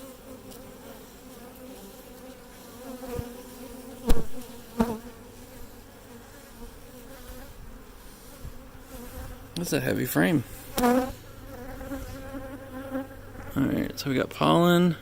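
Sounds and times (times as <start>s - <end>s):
bees buzzing: 0.0s - 14.2s.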